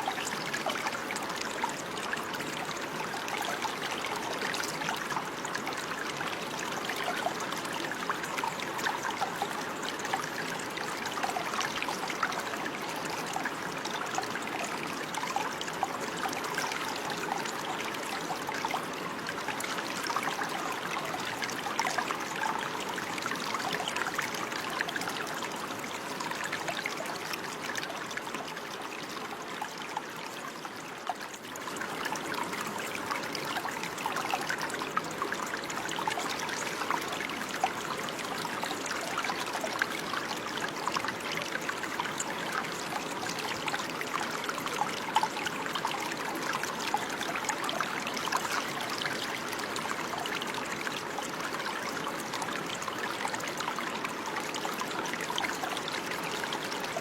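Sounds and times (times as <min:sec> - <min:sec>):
water trickling and babbling: 0:00.0 - 0:57.0.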